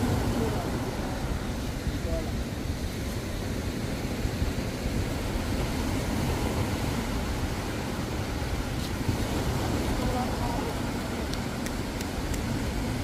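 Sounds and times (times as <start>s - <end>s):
waves washing up a beach: 0.0s - 13.0s
wind rumble on microphone: 0.0s - 13.0s.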